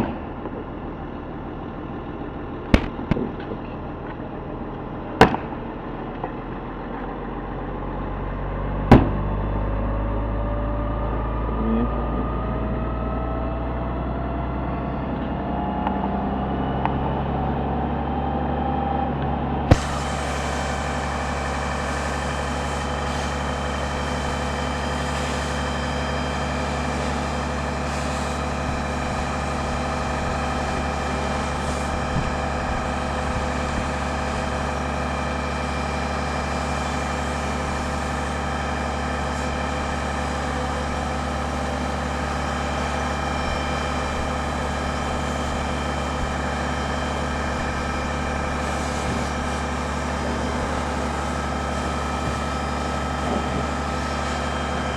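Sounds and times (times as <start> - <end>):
heavy engine idling: 0.0 - 54.9.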